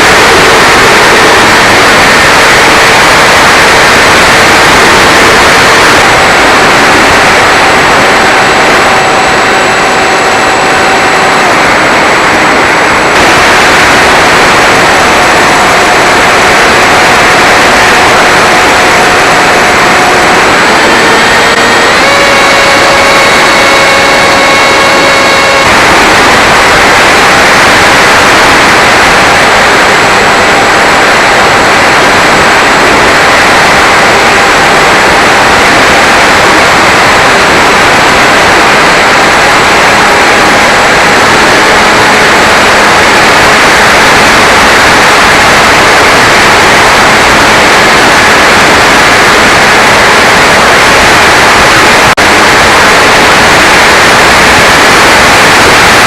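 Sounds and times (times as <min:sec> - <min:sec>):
electric motor whine: 0:00.0 - 0:56.0
loud hissing wind rush: 0:00.0 - 0:56.0.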